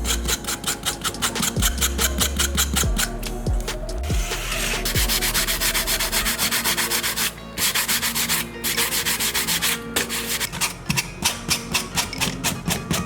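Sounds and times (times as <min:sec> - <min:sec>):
sandpaper rubbing back and forth: 0:00.0 - 0:13.0.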